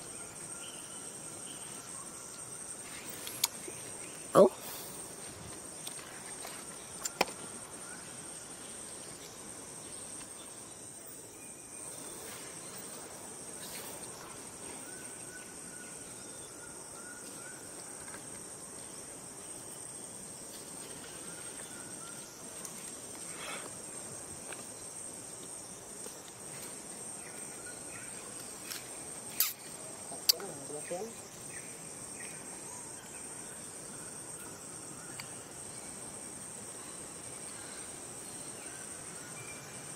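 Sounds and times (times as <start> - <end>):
insects buzzing high-pitched: 0.0 - 39.9
outdoor ambience: 0.0 - 39.9.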